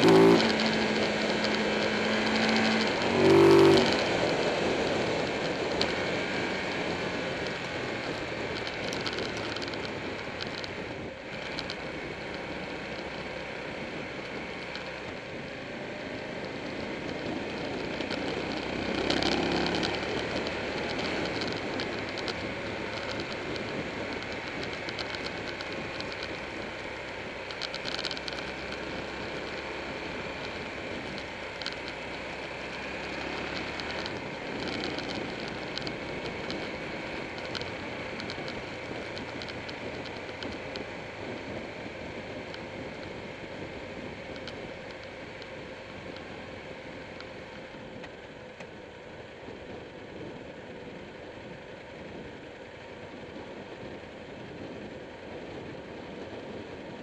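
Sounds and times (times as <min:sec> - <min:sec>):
light ticks and rattles: 0:00.0 - 0:15.3, 0:16.4 - 0:50.4
motorcycle engine droning: 0:00.0 - 0:57.0
road noise: 0:00.0 - 0:57.0.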